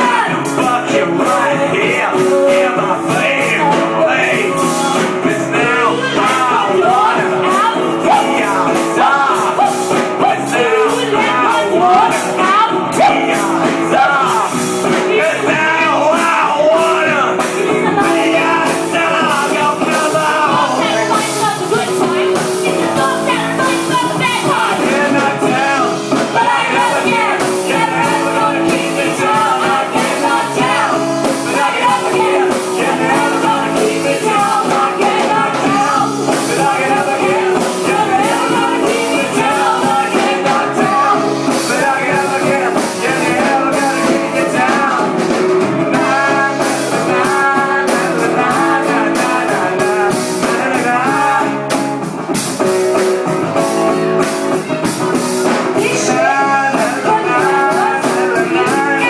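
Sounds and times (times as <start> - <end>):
drum strokes: 0.0 - 59.0
live rock band playing: 0.0 - 59.0
person singing: 0.0 - 59.0.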